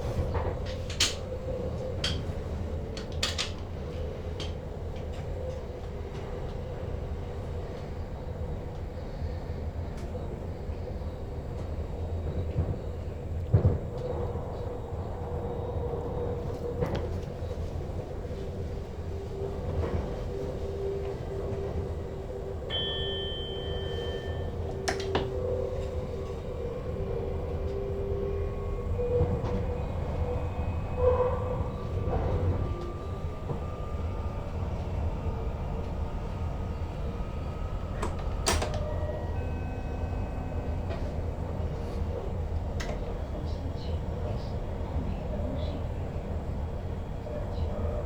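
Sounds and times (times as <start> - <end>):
electric train hum: 0.0 - 48.0.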